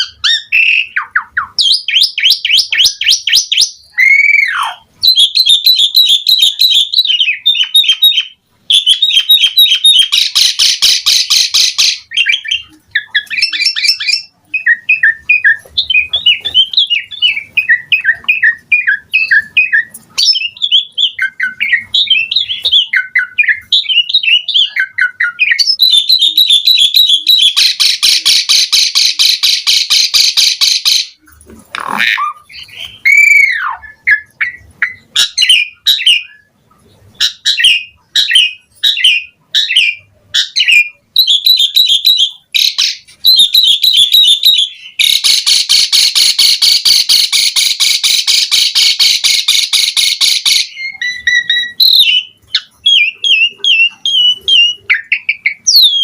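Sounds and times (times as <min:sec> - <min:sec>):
starling singing whistles and chirps: 0:00.0 - 0:31.3, 0:32.1 - 0:56.0.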